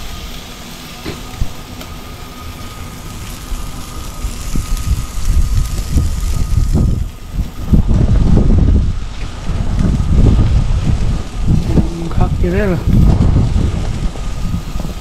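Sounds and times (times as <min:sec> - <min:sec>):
meat sizzling on a grill: 0:00.0 - 0:15.0
wind buffeting microphone: 0:01.2 - 0:15.0.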